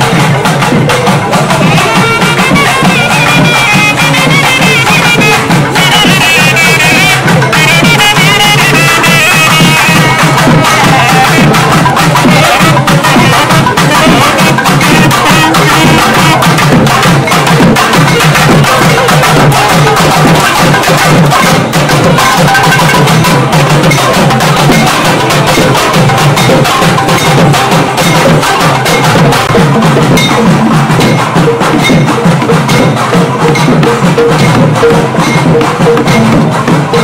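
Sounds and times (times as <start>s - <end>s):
fast drumming with stick strokes: 0.0s - 37.0s.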